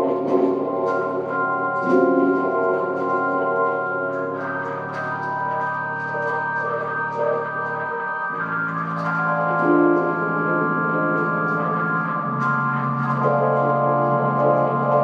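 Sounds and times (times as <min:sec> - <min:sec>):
organ playing sustained chords: 0:00.0 - 0:15.0.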